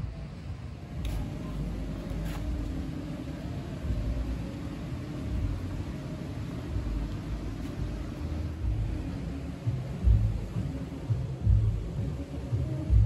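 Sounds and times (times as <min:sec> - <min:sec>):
faint steady hum: 0:00.0 - 0:13.0
low uneven rumble: 0:00.0 - 0:13.0.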